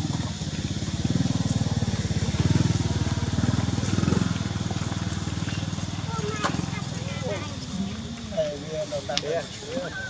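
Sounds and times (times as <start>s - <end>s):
small engine running: 0.0s - 9.8s.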